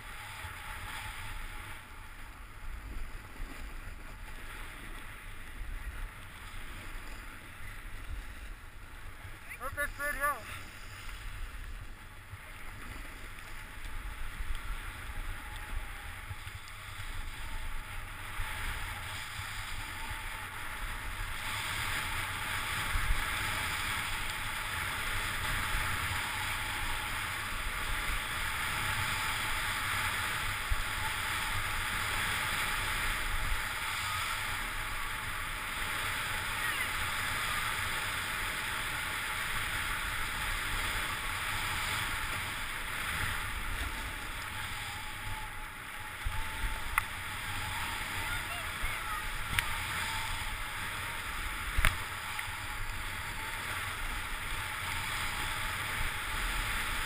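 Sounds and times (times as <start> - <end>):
wind rumble on microphone: 10.5 - 57.0.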